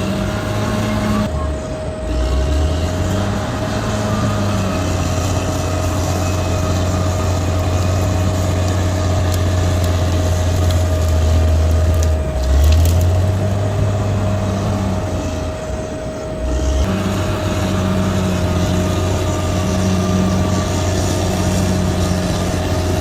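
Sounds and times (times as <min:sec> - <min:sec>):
bulldozer diesel engine running: 0:00.0 - 0:23.0
dirt crunching under machine: 0:00.0 - 0:23.0
high whine: 0:00.0 - 0:23.0.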